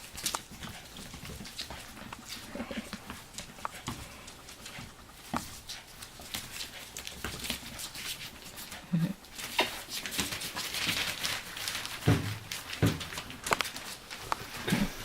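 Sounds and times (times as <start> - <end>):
puppies scuffling and scratching: 0.0 - 15.0
rustling: 0.0 - 15.0.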